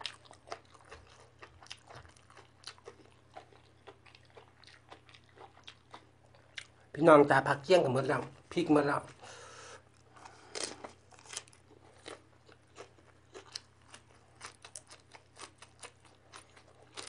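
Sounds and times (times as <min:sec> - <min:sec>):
person chewing raw vegetables: 0:00.0 - 0:06.9, 0:09.8 - 0:17.0.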